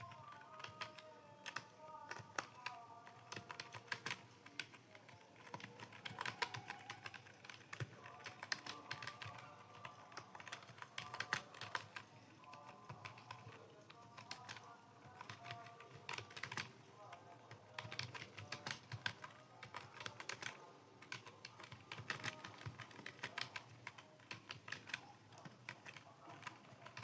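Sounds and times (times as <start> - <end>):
keyboard typing clicks: 0.0 - 27.0.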